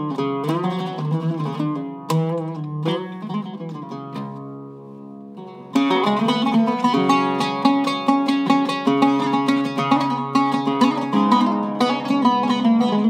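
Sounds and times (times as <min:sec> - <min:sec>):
oud plucked notes: 0:00.0 - 0:13.0.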